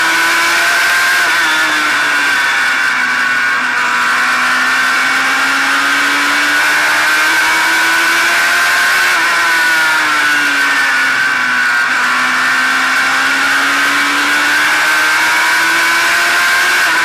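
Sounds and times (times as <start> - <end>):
racing car engine: 0.0 - 17.0.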